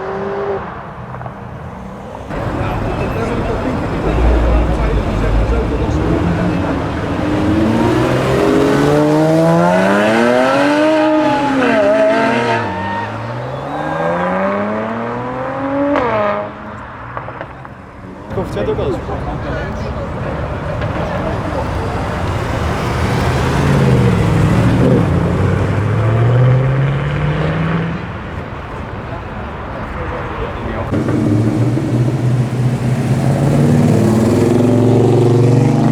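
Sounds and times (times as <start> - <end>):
car engine revving: 2.2 - 35.9.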